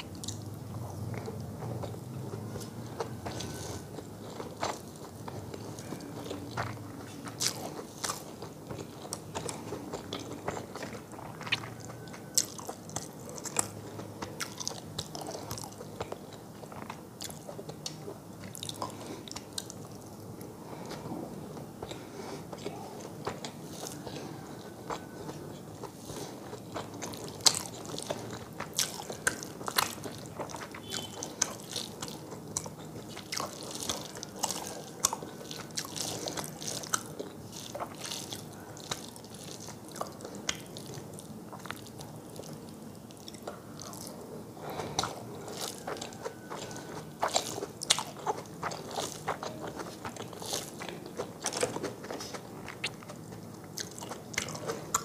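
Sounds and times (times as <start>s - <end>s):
chewing and mouth clicks: 0.0s - 55.0s.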